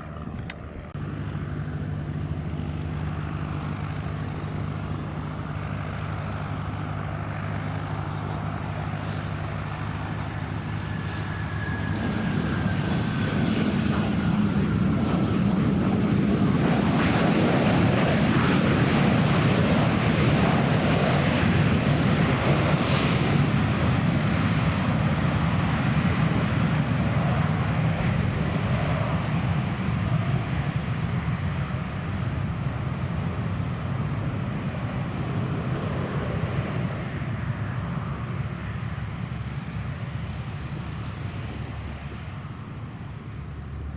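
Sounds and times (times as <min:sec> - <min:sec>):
airplane engines passing: 0:00.0 - 0:43.9.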